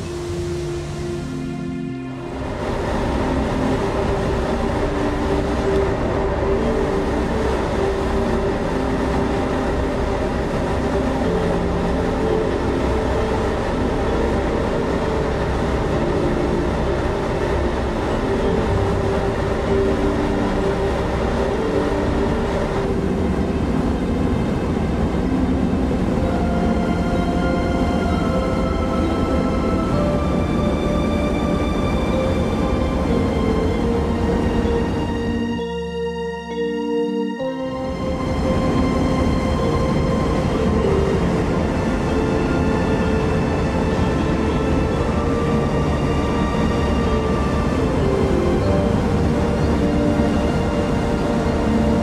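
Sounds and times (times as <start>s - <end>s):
ferry engines rumbling: 0.0s - 52.0s.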